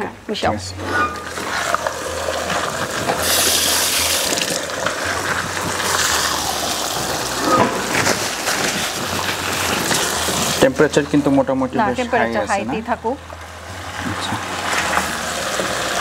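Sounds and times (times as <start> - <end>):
chicken and onions sizzling in pan: 1.2 - 11.8, 12.9 - 16.0.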